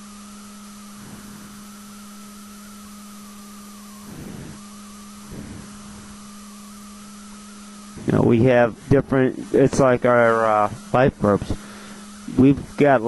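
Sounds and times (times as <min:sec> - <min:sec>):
constant hiss: 0:00.0 - 0:13.0
faint wavering whine: 0:00.0 - 0:13.0
low hum: 0:00.0 - 0:13.0.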